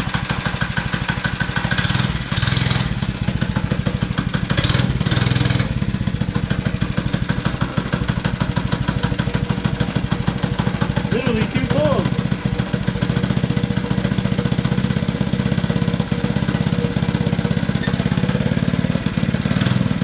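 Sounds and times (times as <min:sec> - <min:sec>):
mini bike engine running: 0:00.0 - 0:20.0.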